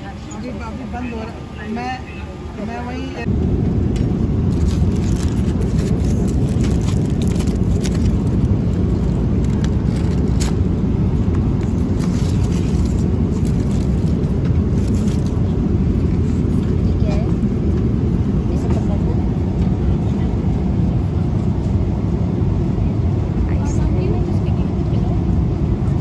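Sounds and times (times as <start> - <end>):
aircraft cabin rumble: 0.0 - 26.0.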